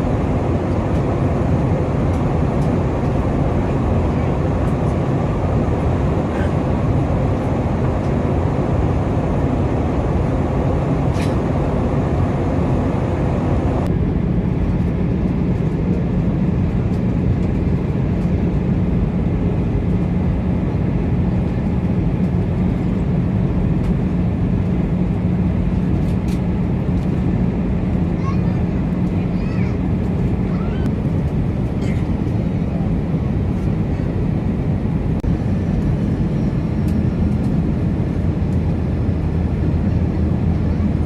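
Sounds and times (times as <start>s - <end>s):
aircraft cabin engine rush: 0.0s - 41.0s
steady low hum: 0.0s - 41.0s.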